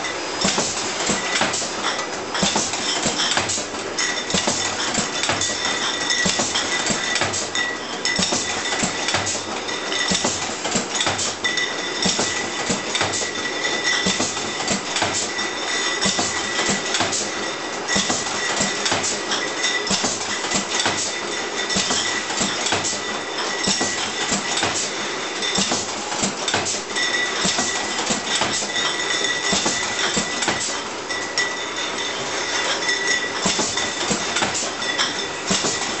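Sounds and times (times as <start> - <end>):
glass bottles clinking and rattling: 0.0 - 36.0
machine clicks and clatter: 0.0 - 36.0.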